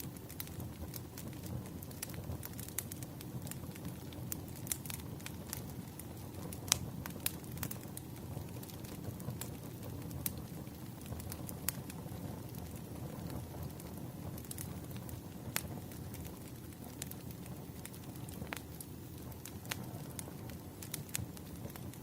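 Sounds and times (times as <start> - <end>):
low rush of burning: 0.0 - 22.0
wood fire crackling and popping: 0.0 - 22.0.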